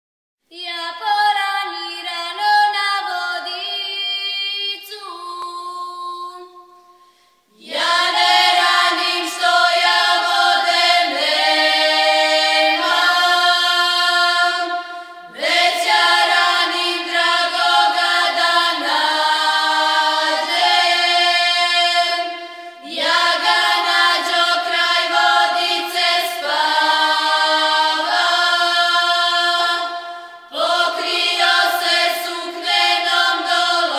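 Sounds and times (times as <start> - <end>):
women singing unaccompanied: 0.5 - 6.9, 7.5 - 33.9.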